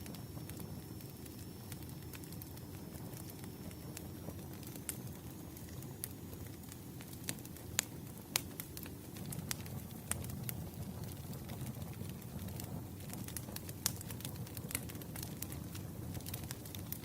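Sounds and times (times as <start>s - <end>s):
loud snaps of fire: 0.0s - 17.0s
wood fire crackling: 0.0s - 17.0s.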